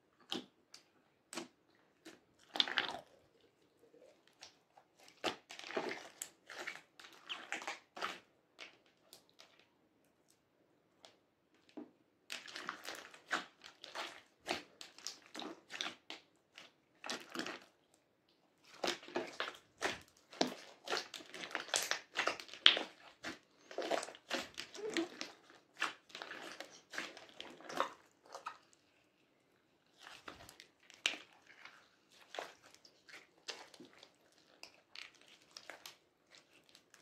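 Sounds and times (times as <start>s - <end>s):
slime squelching and popping: 0.2s - 9.7s, 12.3s - 17.9s, 18.6s - 29.0s, 29.8s - 37.0s.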